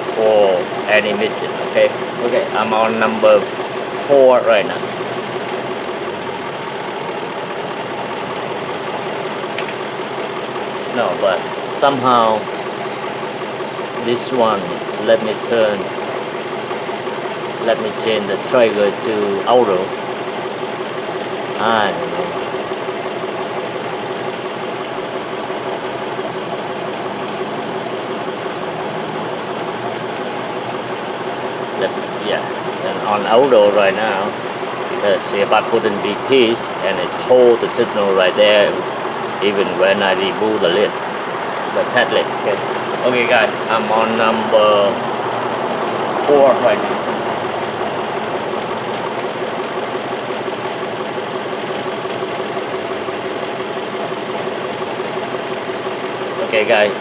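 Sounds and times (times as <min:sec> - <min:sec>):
car engine idling with misfire: 0:00.0 - 0:57.0.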